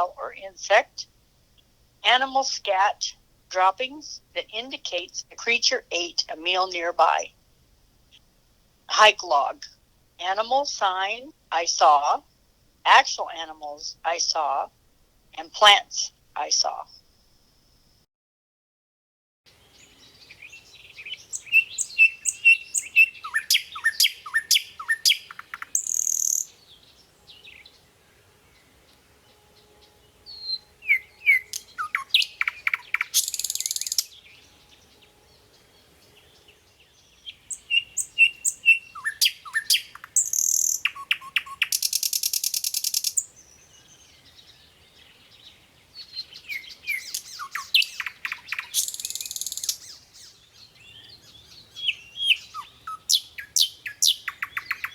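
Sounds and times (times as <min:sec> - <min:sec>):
songbird singing: 0:00.0 - 0:18.0, 0:19.5 - 0:54.9.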